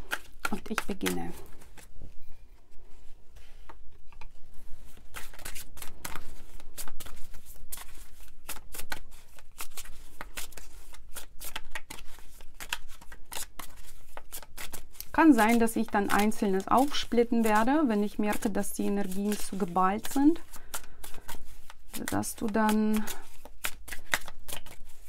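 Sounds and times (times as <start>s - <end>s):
cards being shuffled: 0.0s - 25.0s.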